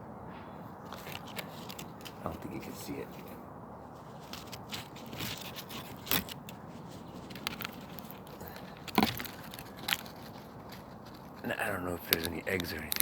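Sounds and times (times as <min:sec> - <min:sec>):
camera handling clicks and rustles: 0:00.8 - 0:02.4, 0:04.0 - 0:13.0.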